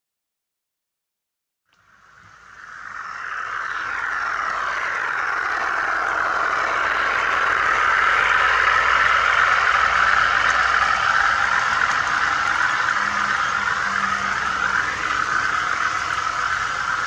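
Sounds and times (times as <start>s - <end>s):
model train running on track: 1.8s - 17.0s.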